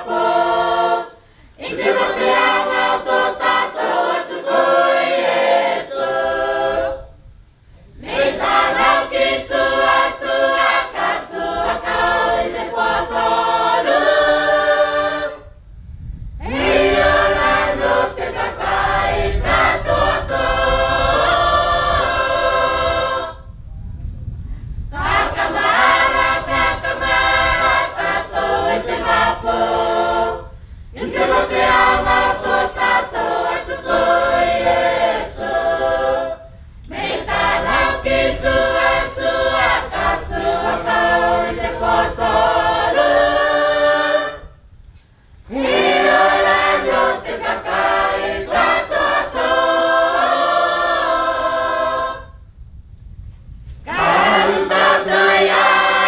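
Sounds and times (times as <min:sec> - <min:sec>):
choir singing: 0:00.0 - 0:07.2, 0:08.0 - 0:15.5, 0:16.4 - 0:23.5, 0:24.9 - 0:44.6, 0:45.5 - 0:52.4, 0:53.9 - 0:56.0.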